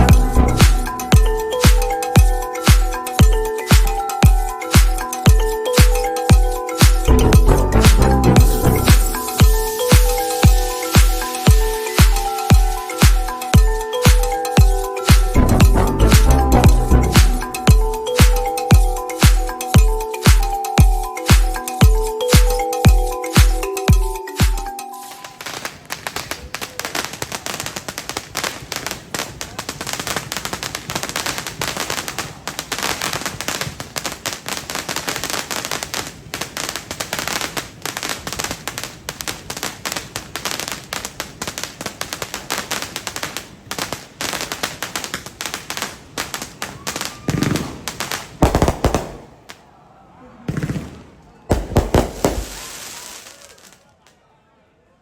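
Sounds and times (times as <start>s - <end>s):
fireworks crackling: 0.0s - 49.8s, 50.5s - 54.2s
fireworks bangs: 0.0s - 54.1s.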